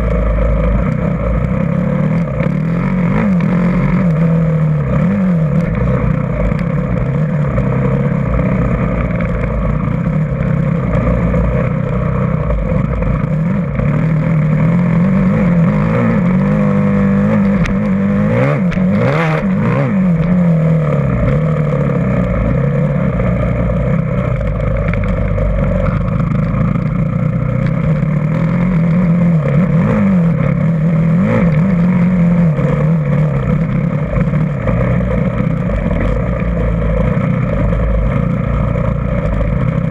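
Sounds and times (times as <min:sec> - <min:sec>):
dirt bike engine revving: 0:00.0 - 0:39.9
rush of noise: 0:00.0 - 0:39.9.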